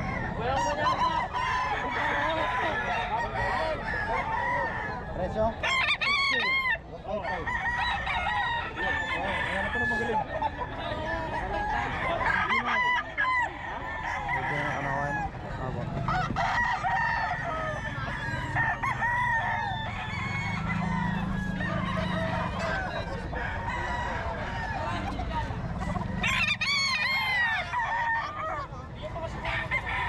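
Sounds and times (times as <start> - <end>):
chickens clucking: 0.0 - 30.0
roosters crowing: 0.0 - 30.0.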